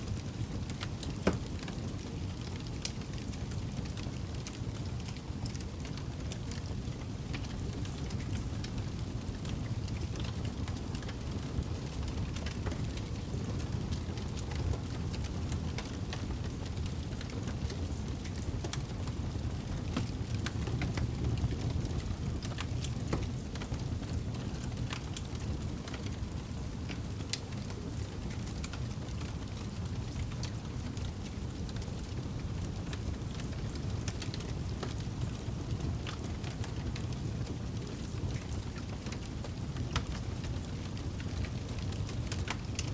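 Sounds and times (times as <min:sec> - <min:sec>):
low rumble of flames: 0:00.0 - 0:42.9
burning wood crackling and popping: 0:00.1 - 0:42.9.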